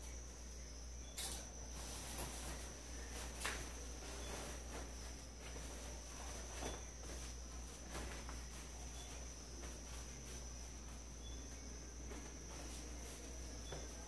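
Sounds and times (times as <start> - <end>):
fabric rustling: 1.6 - 14.0.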